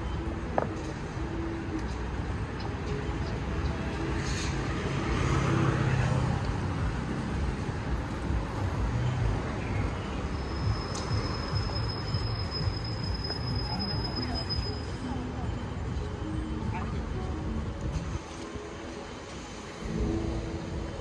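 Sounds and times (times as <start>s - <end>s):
road noise from passing cars: 0.0s - 21.0s.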